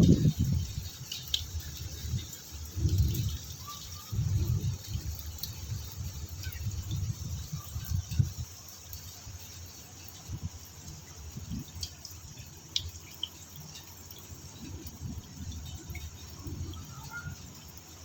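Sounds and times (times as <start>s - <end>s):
rain falling: 0.0s - 18.0s
sharp drips: 0.0s - 18.0s.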